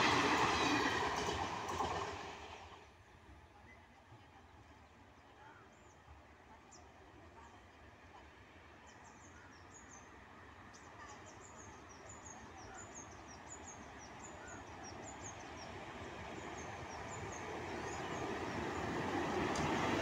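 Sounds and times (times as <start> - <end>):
electric locomotive and train rumbling: 0.0 - 20.0.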